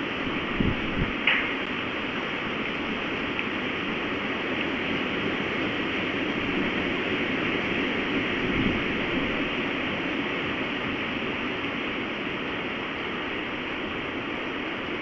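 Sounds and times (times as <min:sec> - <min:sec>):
strong storm wind blowing: 0:00.0 - 0:15.0.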